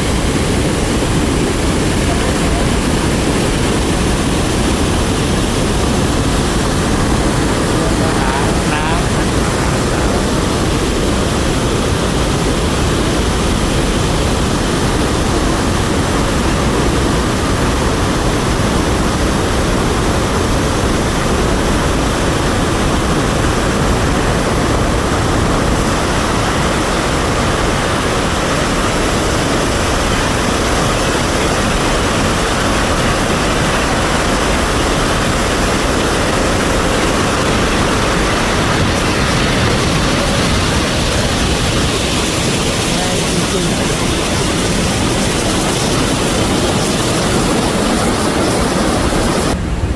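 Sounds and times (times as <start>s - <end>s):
waterfall rushing: 0.0s - 49.6s.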